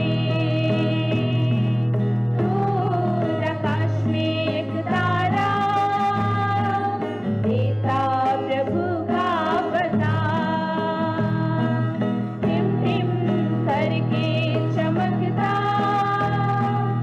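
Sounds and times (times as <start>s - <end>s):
women singing together: 0.0s - 1.8s, 2.4s - 17.0s
acoustic guitar: 0.0s - 17.0s.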